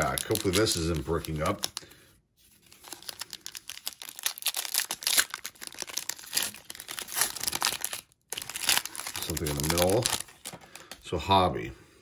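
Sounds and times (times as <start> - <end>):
foil wrapper crinkling and tearing: 0.0 - 1.9, 2.6 - 11.0.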